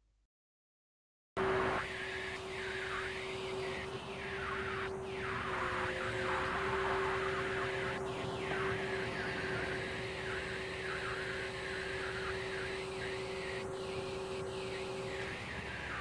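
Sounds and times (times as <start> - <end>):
crane hydraulics whining: 1.4 - 16.0.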